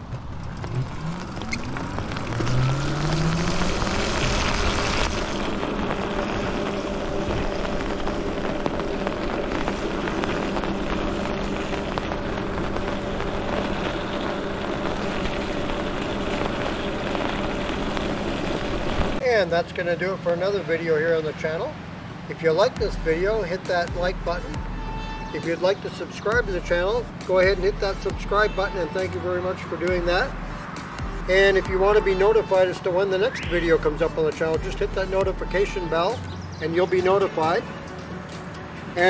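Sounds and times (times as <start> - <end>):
tyres hissing on wet pavement: 0.0 - 20.0, 20.6 - 39.0
wind: 0.0 - 39.0.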